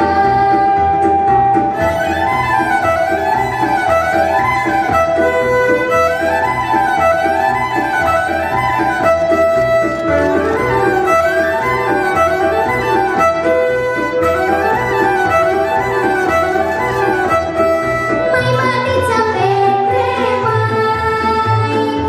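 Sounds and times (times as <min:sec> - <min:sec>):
keyboard accompaniment with bass beat: 0:00.0 - 0:22.0
violin playing fast folk tune: 0:00.0 - 0:22.0.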